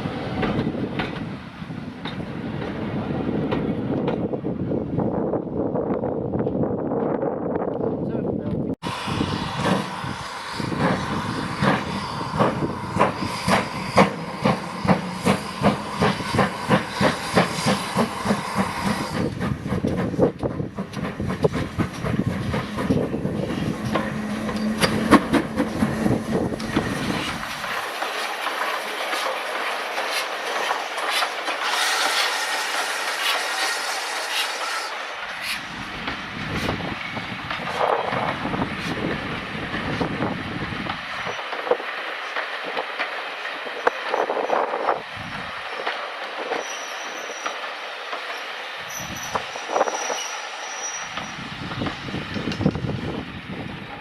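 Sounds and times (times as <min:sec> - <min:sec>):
steam train running past: 0:00.0 - 0:05.4, 0:08.8 - 0:54.0
steam train hissing: 0:08.8 - 0:54.0.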